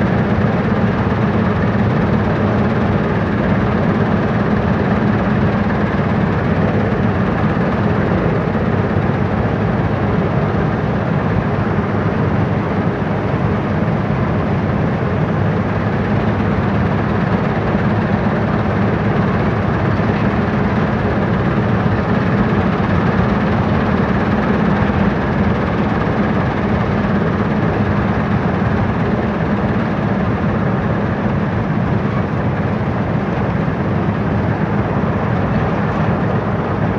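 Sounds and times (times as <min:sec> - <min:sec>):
combine harvester engine droning: 0:00.0 - 0:36.9.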